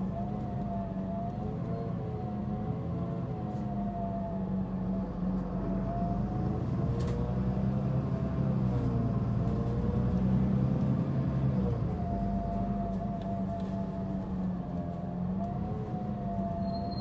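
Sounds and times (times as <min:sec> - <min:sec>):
diesel bus engine droning: 0:00.0 - 0:17.0.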